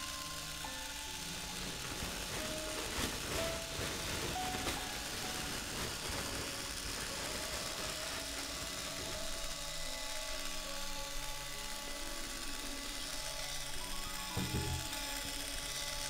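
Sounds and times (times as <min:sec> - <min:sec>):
mechanical grinding noise: 0:00.0 - 0:16.0.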